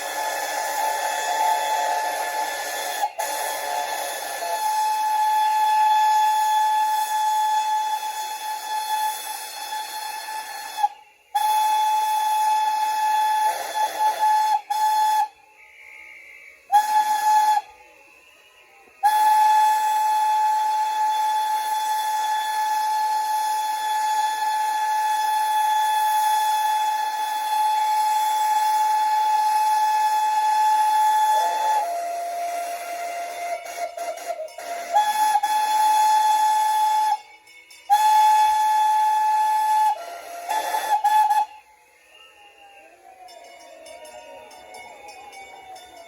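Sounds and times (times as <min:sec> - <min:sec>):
hiss of steam: 0:00.0 - 0:46.0
steam locomotive whistle: 0:00.0 - 0:46.0.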